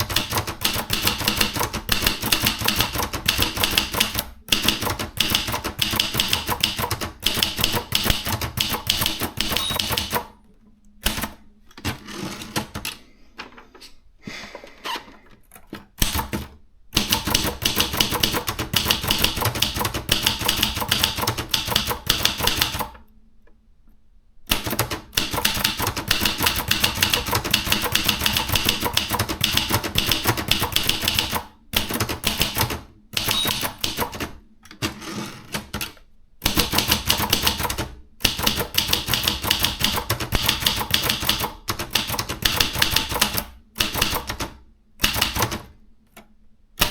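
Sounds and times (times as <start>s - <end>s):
manual typewriter typing: 0.0s - 10.4s, 11.0s - 13.0s, 15.5s - 23.0s, 24.5s - 45.7s.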